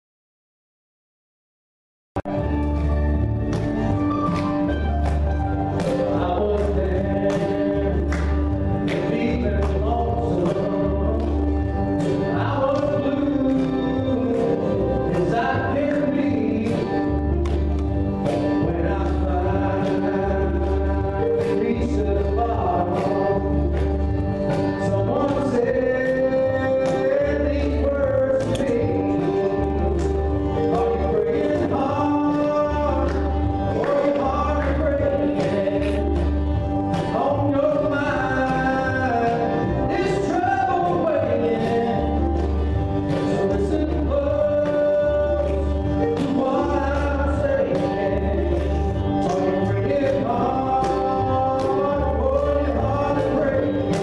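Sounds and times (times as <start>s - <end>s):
acoustic guitar: 2.2s - 54.0s
man singing: 3.9s - 54.0s.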